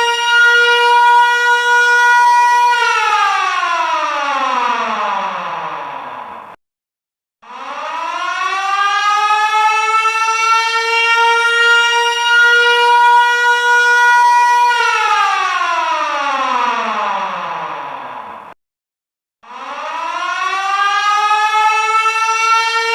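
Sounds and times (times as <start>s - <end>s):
air-raid siren wailing: 0.0s - 6.6s, 7.4s - 18.6s, 19.4s - 22.9s.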